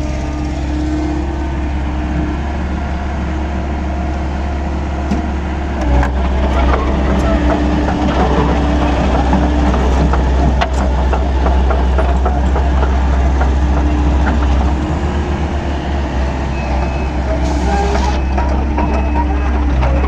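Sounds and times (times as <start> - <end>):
diesel excavator rumble: 0.0 - 20.0.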